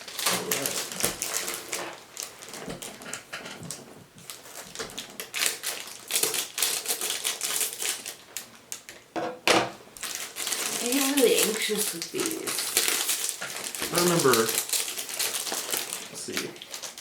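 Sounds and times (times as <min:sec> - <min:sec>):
packaging being opened: 0:00.0 - 0:09.0, 0:10.0 - 0:17.0.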